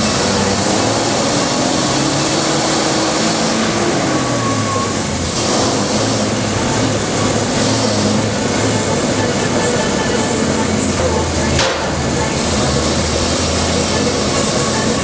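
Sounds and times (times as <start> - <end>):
bus diesel engine running: 0.0 - 15.0
road and traffic noise: 0.0 - 15.0.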